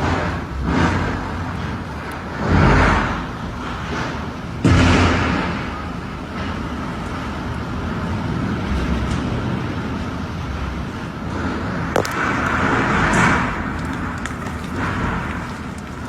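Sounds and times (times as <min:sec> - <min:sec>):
wind and rain rushing: 0:00.0 - 0:16.0.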